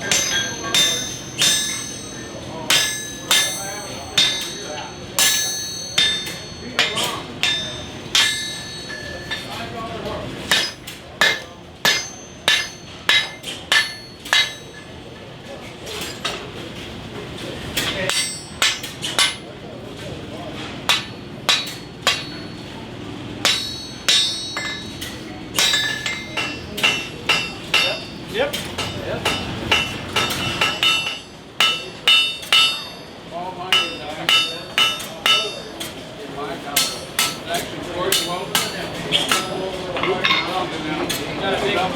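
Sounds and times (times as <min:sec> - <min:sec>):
hammer ringing on anvil: 0:00.0 - 0:15.1, 0:17.8 - 0:19.6, 0:20.9 - 0:22.8, 0:23.4 - 0:41.3.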